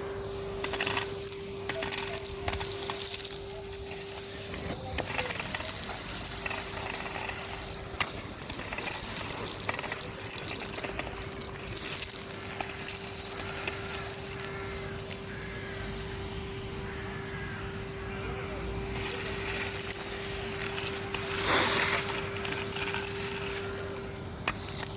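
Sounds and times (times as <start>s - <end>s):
vacuum cleaner running: 0.0s - 24.9s
grit rattling through hose: 0.6s - 15.6s, 18.9s - 24.9s.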